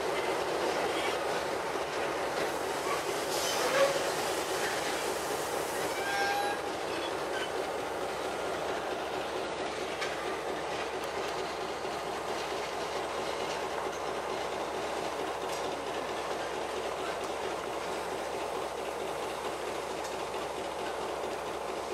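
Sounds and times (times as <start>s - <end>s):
wheels clicking over rail joints: 0.0s - 5.1s, 5.8s - 21.9s.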